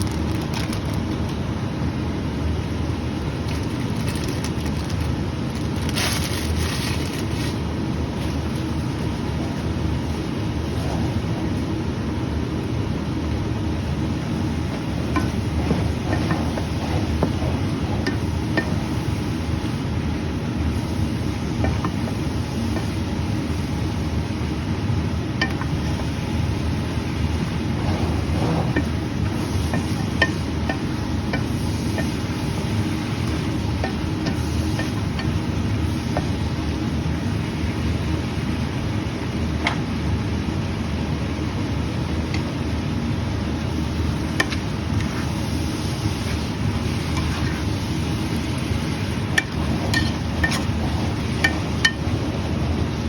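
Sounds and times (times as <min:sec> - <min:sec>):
stir-frying low roar: 0:00.0 - 0:53.0.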